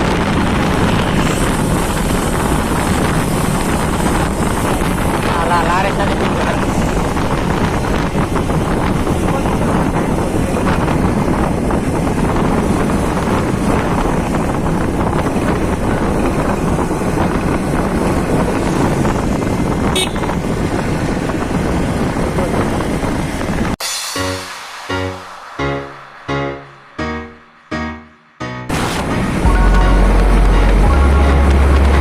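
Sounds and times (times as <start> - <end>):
wind rushing over microphone: 0.0 - 29.5
road noise: 0.0 - 32.0.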